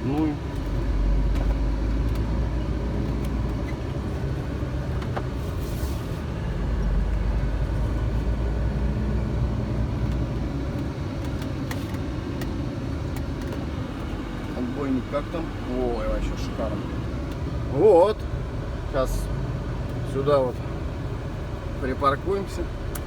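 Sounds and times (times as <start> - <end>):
truck engine and road rumble: 0.0 - 23.0.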